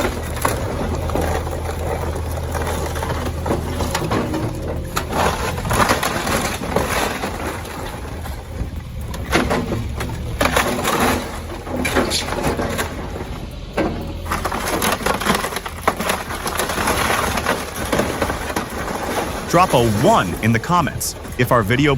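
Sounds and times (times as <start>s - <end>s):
low rumble: 0.0s - 21.9s
structure cracking and crunching: 0.0s - 21.9s.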